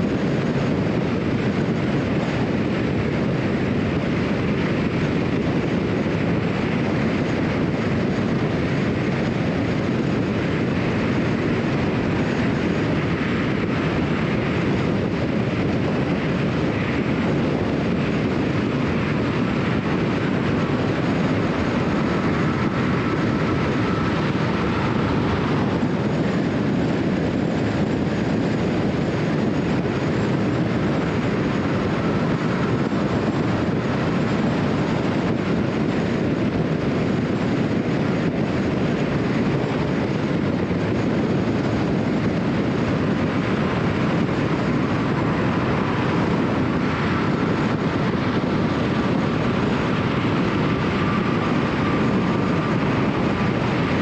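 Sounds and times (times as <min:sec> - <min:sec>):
wind noise: 0:00.0 - 0:54.0.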